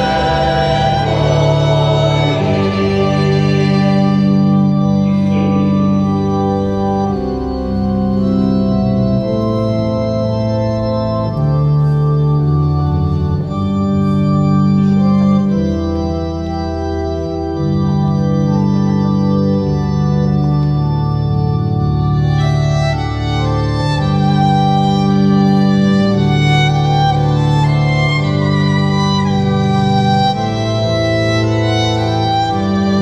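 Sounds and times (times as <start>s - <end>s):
organ playing sustained chords: 0.0s - 33.0s.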